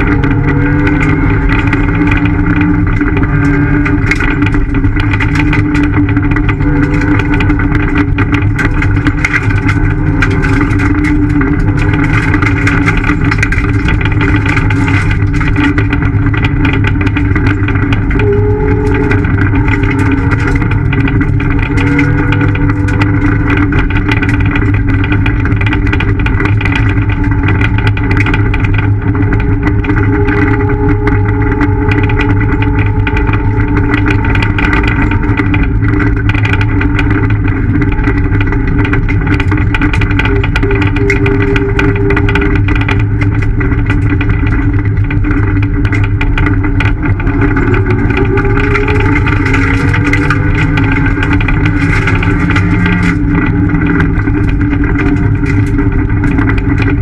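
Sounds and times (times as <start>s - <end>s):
car engine at speed: 0.0s - 57.0s
patter of sharp ticks: 0.0s - 57.0s.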